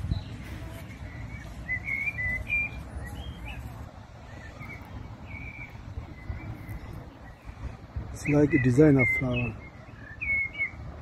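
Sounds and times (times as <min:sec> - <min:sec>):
songbird calling: 0:00.0 - 0:11.0.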